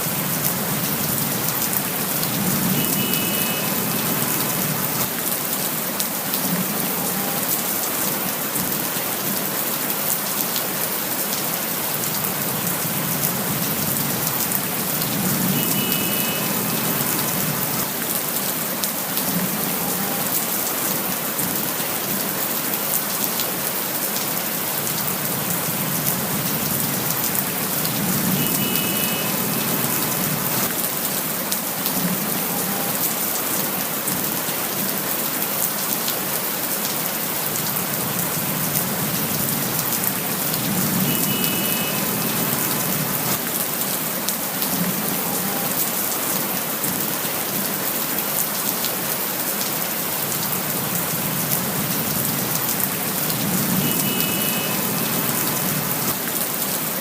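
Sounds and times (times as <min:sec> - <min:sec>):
raindrops striking close by: 0:00.0 - 0:57.0
steady rain hiss: 0:00.0 - 0:57.0.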